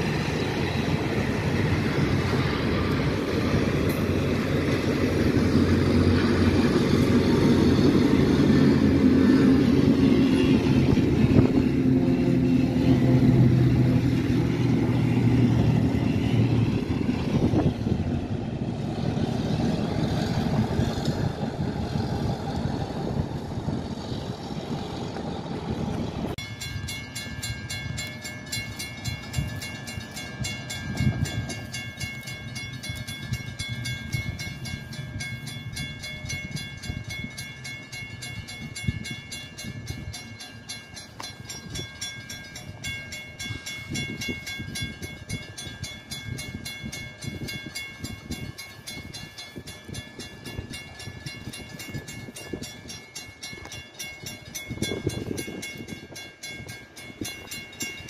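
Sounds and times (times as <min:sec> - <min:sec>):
crossing warning bell ringing: 0:00.0 - 0:23.2, 0:26.2 - 0:58.0
train rumble: 0:00.0 - 0:58.0.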